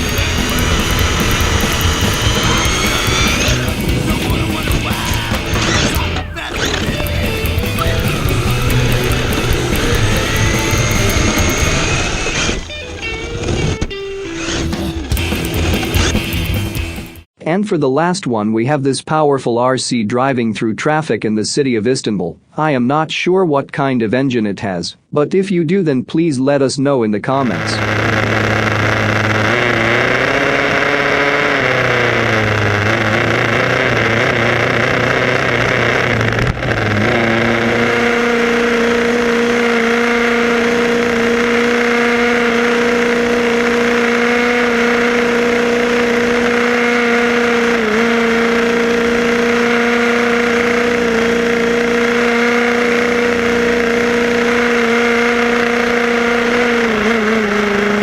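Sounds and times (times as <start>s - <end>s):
remote control car motor: 0.0s - 16.6s, 27.4s - 58.0s.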